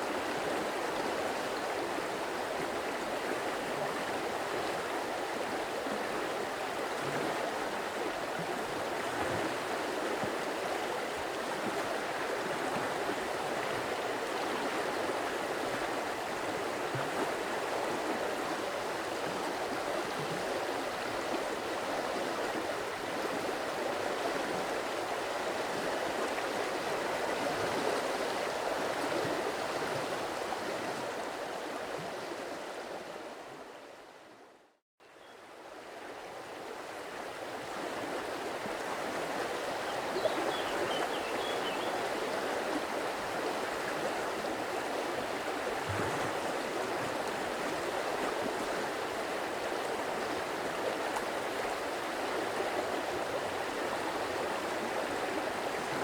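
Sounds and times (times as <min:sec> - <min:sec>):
stream water running: 0:00.0 - 0:34.4, 0:35.0 - 0:56.0.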